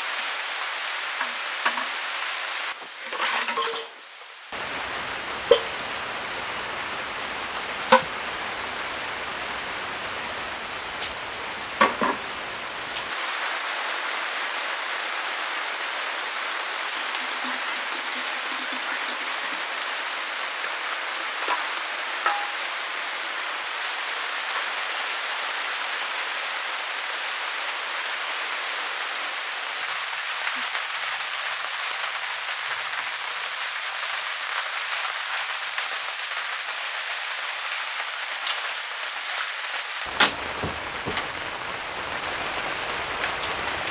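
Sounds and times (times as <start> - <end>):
heavy rain: 0.0 - 2.8, 4.6 - 43.9.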